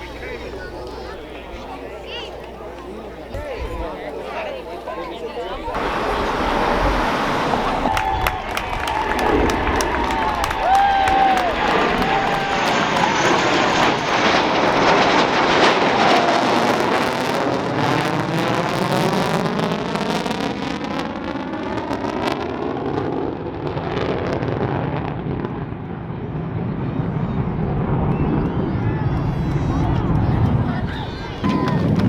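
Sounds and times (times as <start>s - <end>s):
airplane passing overhead: 0.0s - 32.0s.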